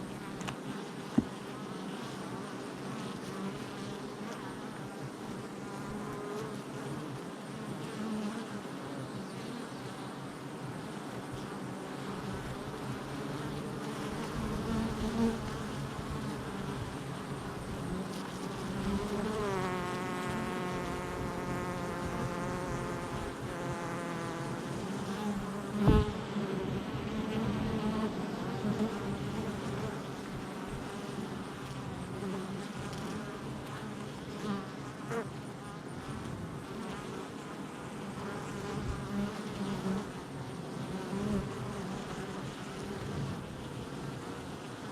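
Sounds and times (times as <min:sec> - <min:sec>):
bees buzzing: 0:00.0 - 0:44.9
close bee buzz: 0:00.0 - 0:44.9.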